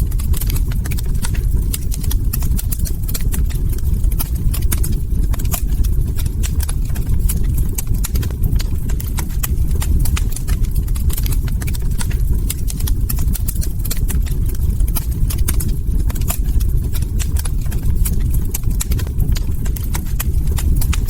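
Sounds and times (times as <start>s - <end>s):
log fire crackling: 0.0s - 21.0s.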